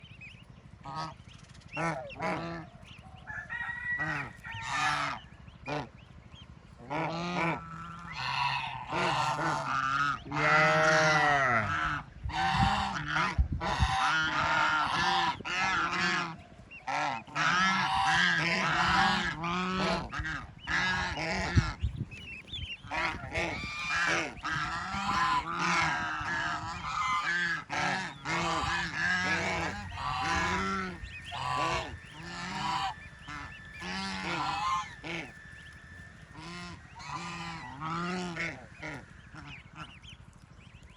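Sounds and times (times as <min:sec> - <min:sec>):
waterfowl calling: 0:00.8 - 0:06.1, 0:06.7 - 0:40.9.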